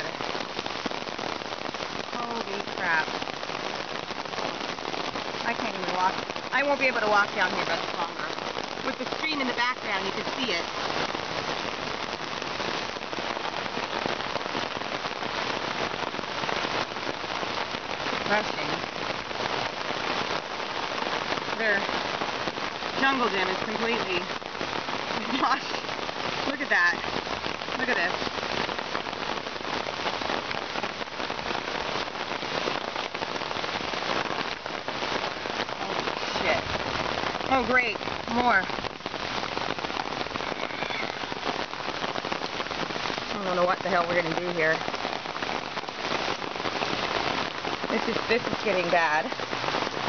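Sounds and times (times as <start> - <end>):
creek rushing: 0.0 - 13.8, 16.4 - 50.0
heavy rain pouring: 0.0 - 50.0.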